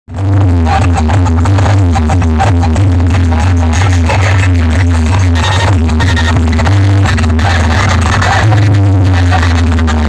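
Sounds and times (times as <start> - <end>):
loud dance music from speakers: 0.1 - 10.0.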